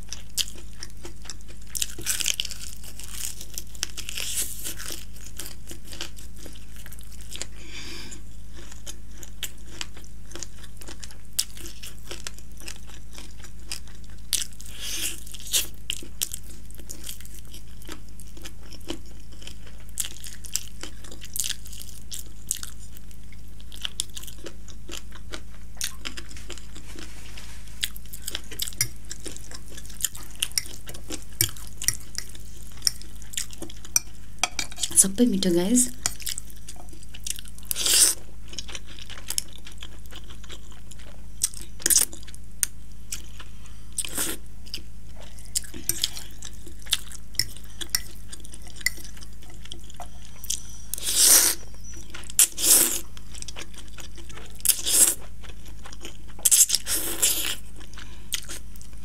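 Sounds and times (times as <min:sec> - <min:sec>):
chewing crispy fried chicken: 0:00.0 - 0:35.0, 0:35.9 - 0:59.0
steady low hum: 0:00.0 - 0:59.0.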